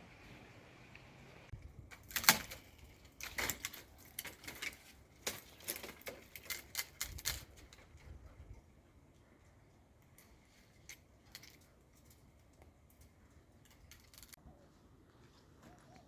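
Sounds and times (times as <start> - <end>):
light clicks and knocks of handling: 0.9 - 14.4.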